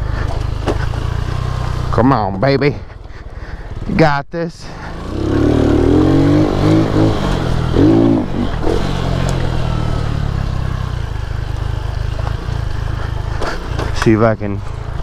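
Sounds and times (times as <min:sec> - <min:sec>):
motorcycle engine revving: 0:00.0 - 0:04.0, 0:04.7 - 0:15.0.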